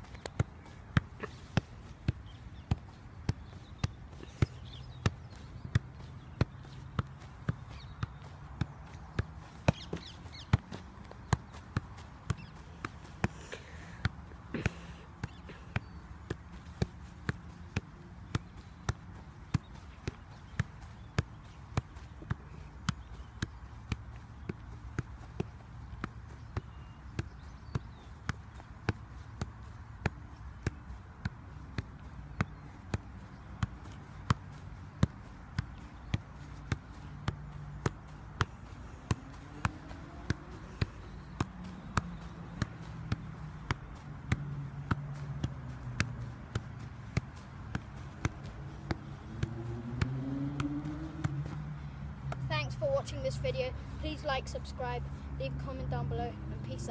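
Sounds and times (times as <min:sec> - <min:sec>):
dull thuds of foot on ball: 0:00.1 - 0:53.5.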